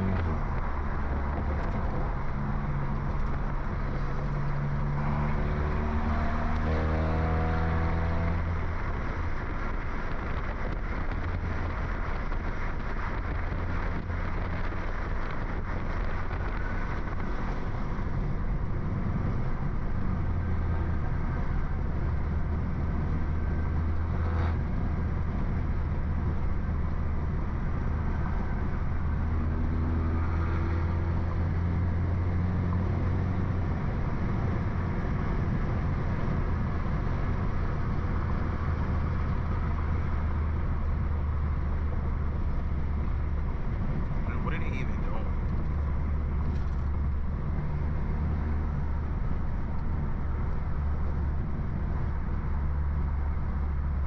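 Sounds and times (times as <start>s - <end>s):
car exhaust drone: 0.0s - 54.0s.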